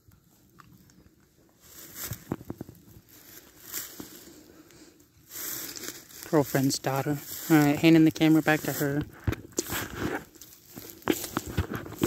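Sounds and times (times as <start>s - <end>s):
dry leaves crunching underfoot: 1.5s - 12.0s
leaves rustling: 1.5s - 12.0s.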